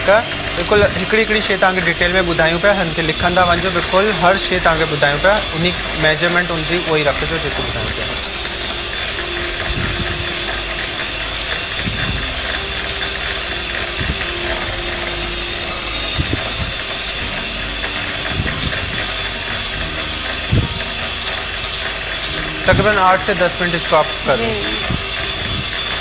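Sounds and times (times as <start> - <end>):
electric hand mixer running: 0.0 - 26.0.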